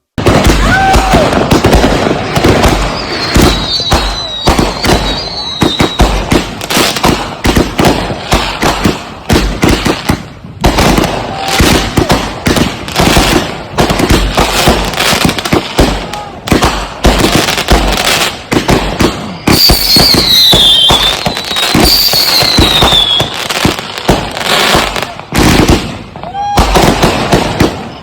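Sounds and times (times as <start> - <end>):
firework barrage launching and bursting: 0.0 - 28.0.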